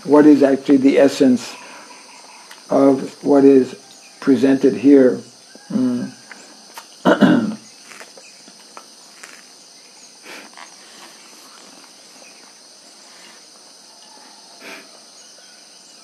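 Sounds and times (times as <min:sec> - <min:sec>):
crickets and insects chirring: 0:00.0 - 0:16.0.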